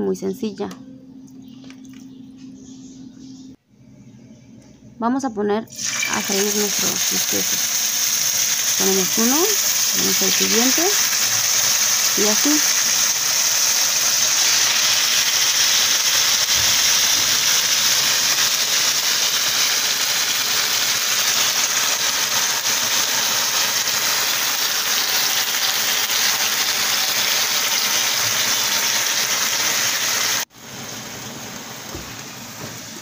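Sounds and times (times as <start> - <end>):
steaks sizzling in hot oil: 5.8 - 33.0.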